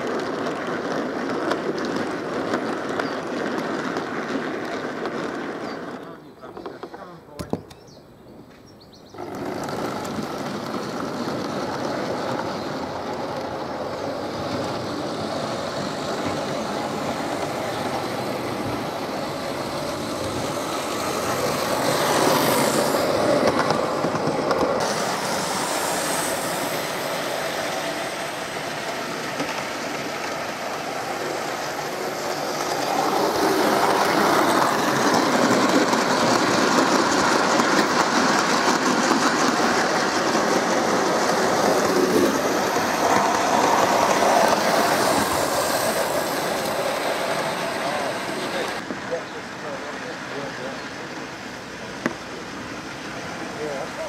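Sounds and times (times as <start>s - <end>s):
model train wheels rattling on rails: 0.0s - 7.2s, 9.1s - 54.0s.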